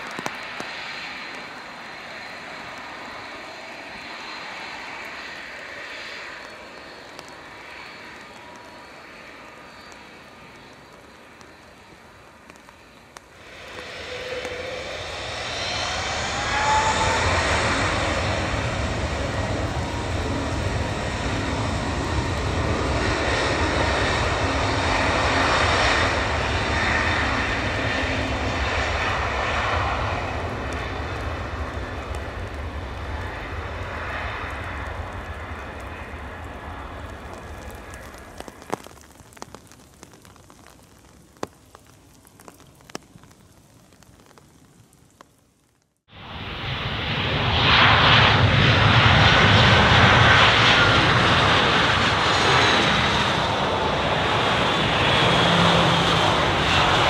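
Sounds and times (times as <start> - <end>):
jet engine roar on takeoff: 0.0 - 43.4, 46.0 - 57.0
jet engines spooling up: 0.3 - 38.8, 46.2 - 57.0.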